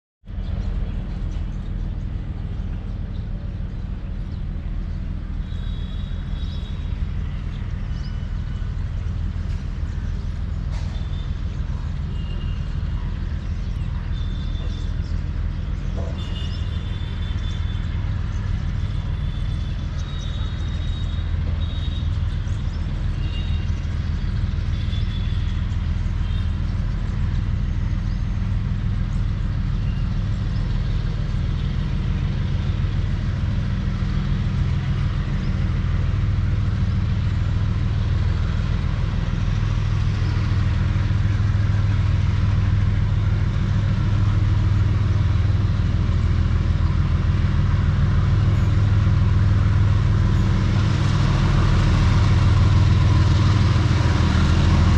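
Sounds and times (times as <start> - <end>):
locomotive engine rumbling: 0.3 - 54.9.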